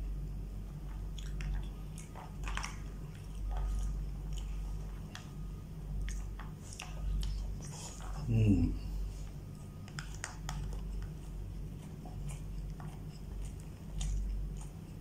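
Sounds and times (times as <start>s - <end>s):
steady low hum: 0.0s - 15.0s
person chewing food: 0.4s - 15.0s.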